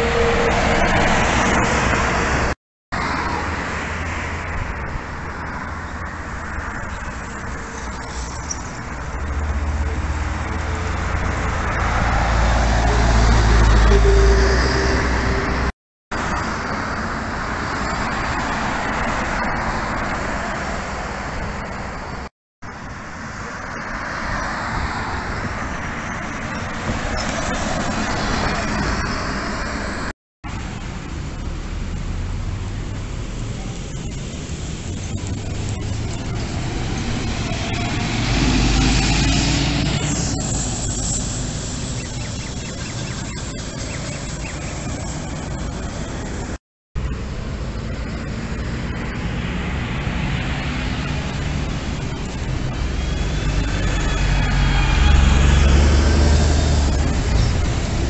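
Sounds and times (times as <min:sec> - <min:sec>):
buses and road traffic passing: 0:00.0 - 0:58.0.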